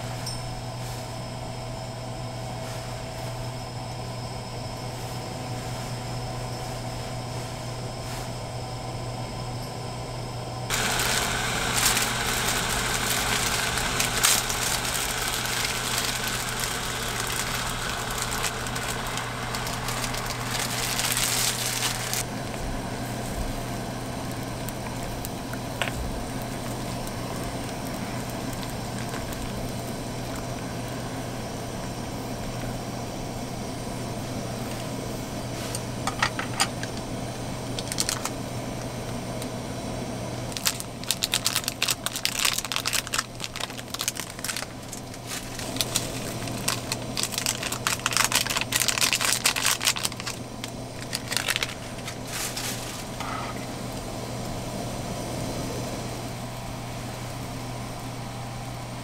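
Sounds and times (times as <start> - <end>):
low hum of camp stove: 0.0 - 59.0
noodles boiling and crackling: 0.0 - 59.0.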